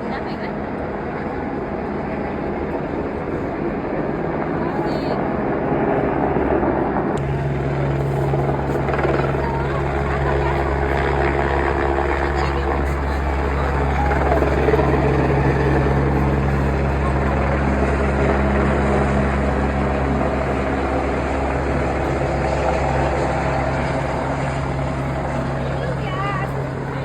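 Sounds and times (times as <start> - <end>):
helicopter rotor drone: 0.0 - 27.0.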